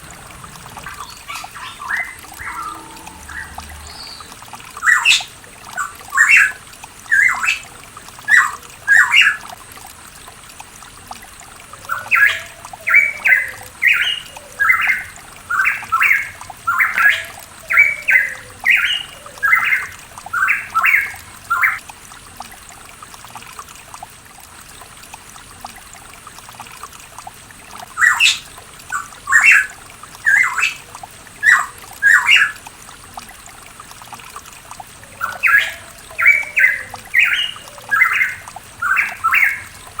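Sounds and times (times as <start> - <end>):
water trickling: 0.0 - 40.0.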